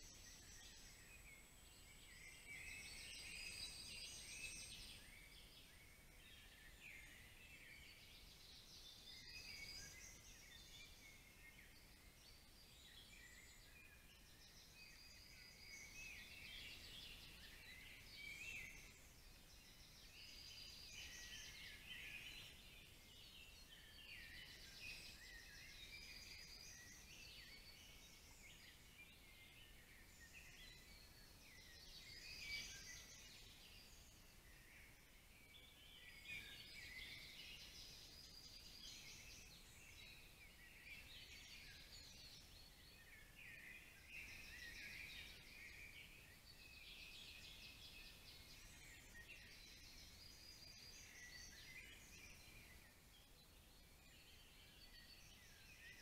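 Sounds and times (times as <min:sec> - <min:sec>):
faint songbirds chirping: 0:00.0 - 0:56.0.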